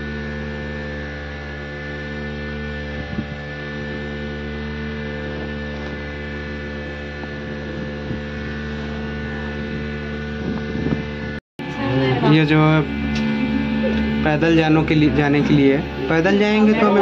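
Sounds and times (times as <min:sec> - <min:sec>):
cable car hum: 0:00.0 - 0:17.0.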